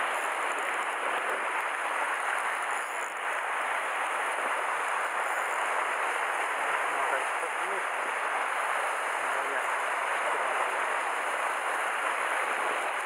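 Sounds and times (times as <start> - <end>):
surf washing on rocky shore: 0.0 - 13.0.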